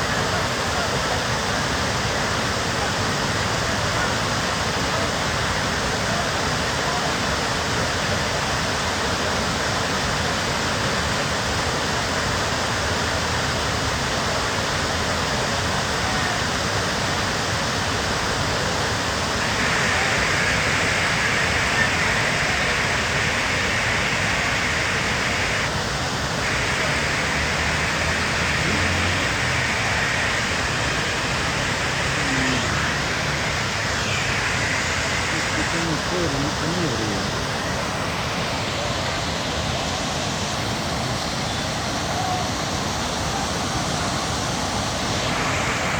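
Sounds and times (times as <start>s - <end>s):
fast mountain water rushing: 0.0s - 45.9s.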